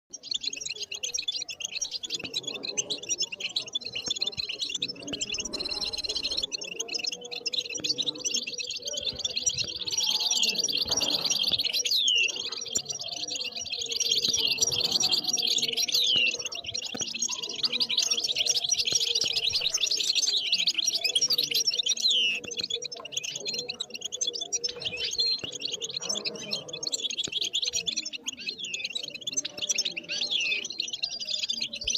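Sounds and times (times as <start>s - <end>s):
goldfinch twittering song: 0.1s - 31.9s.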